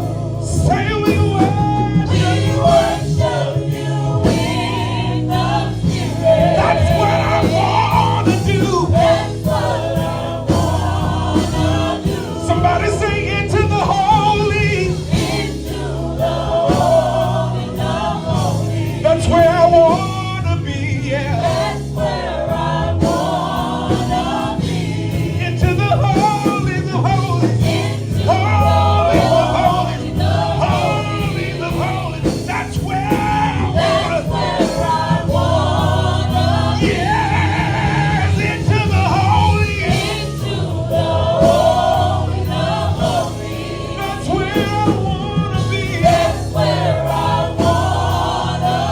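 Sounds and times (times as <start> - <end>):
band accompaniment: 0.0 - 48.9
choir and congregation singing: 0.0 - 48.9.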